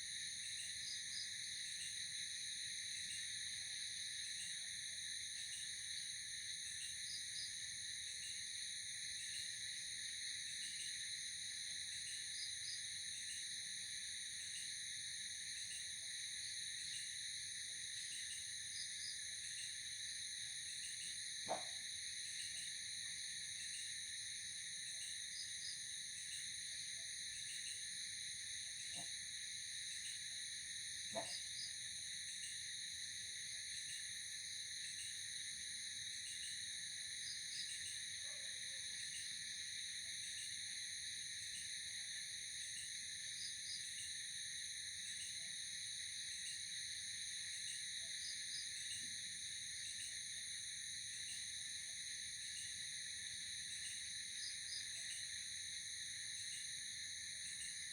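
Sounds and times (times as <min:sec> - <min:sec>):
insect chirps: 0:00.0 - 0:57.9
insect trill: 0:00.0 - 0:57.9.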